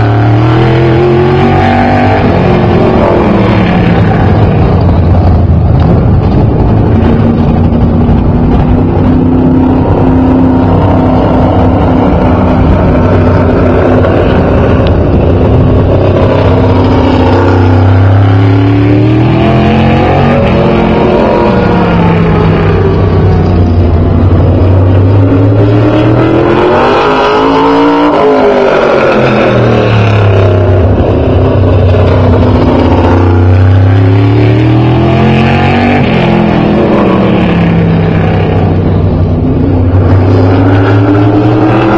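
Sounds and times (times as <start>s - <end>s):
race car engine: 0.0s - 41.9s.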